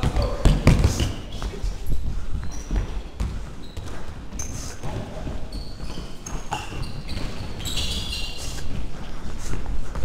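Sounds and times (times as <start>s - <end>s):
shoes squeaking on hall floor: 0.0s - 10.0s.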